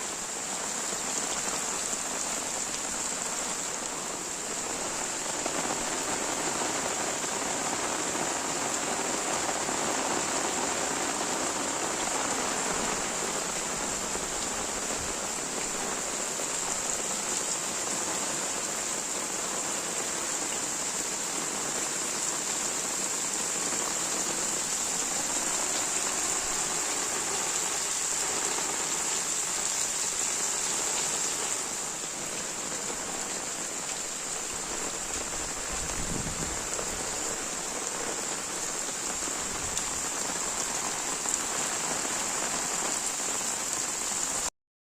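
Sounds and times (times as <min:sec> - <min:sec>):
heavy rain falling: 0:00.0 - 0:44.5.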